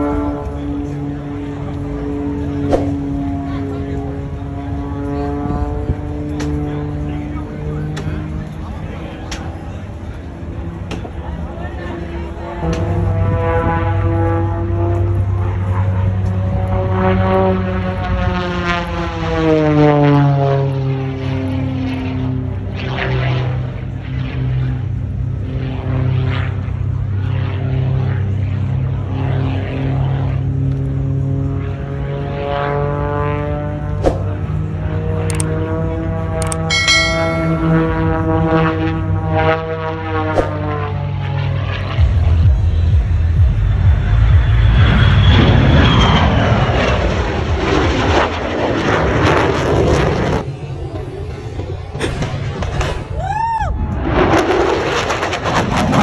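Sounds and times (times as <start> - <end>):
propeller airplane engine droning: 0.0 - 56.0.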